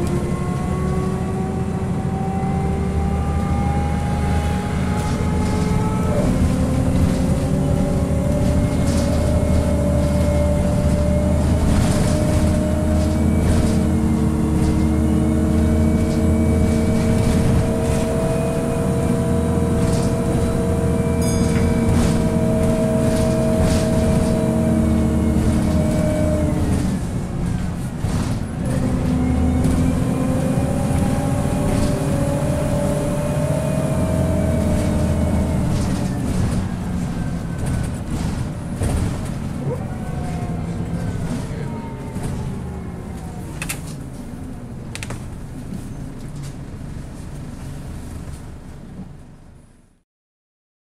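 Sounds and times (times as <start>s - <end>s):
bus engine running: 0.0s - 50.0s.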